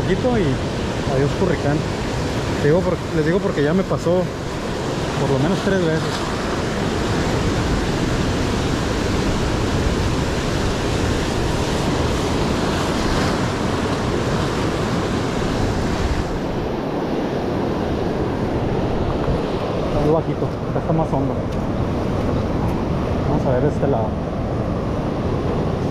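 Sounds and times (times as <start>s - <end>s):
surf breaking on rocky shore: 0.0s - 25.9s.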